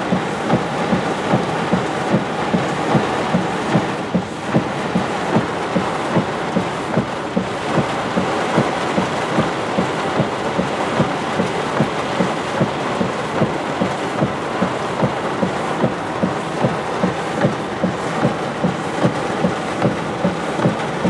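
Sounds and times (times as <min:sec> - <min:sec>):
heavy rain on vehicle roof: 0:00.0 - 0:21.0.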